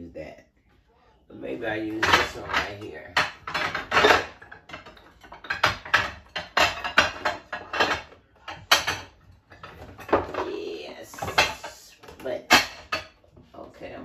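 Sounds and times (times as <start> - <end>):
dishes knocking and clattering: 1.6 - 14.0.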